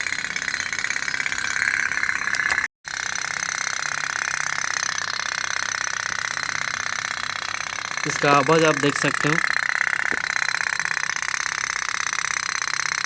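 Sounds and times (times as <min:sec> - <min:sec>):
toy steam boat putting: 0:00.0 - 0:13.0.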